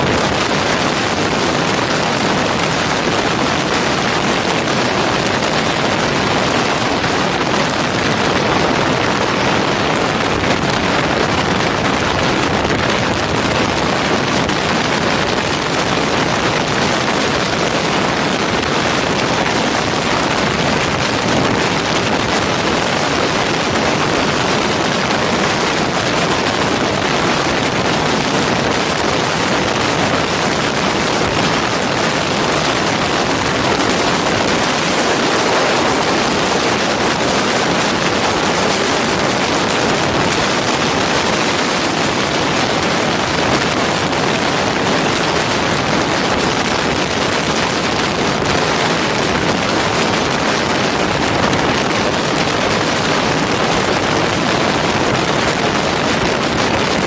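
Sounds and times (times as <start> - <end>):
motorcycle road and engine noise: 0.0 - 57.0
wind rushing on microphone: 0.0 - 57.0.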